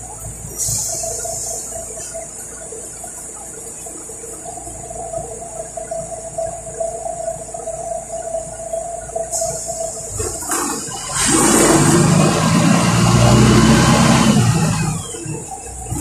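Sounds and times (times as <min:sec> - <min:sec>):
bus engine low rumble: 0:00.0 - 0:16.0
constant whine-like tone: 0:00.0 - 0:16.0
high hiss: 0:00.0 - 0:16.0.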